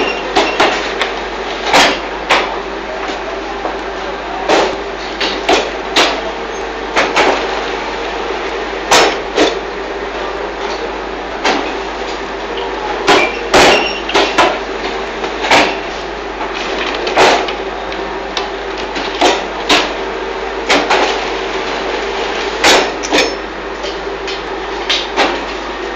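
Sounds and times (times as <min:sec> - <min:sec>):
machine hum: 0:00.0 - 0:25.9.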